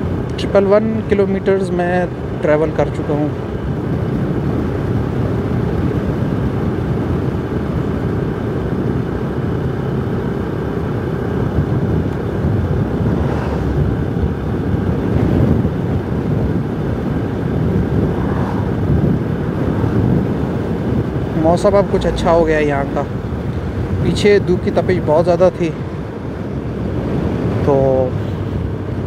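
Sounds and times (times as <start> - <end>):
motorcycle engine cruising: 0.0 - 29.0
wind on microphone: 3.3 - 10.0, 10.6 - 29.0.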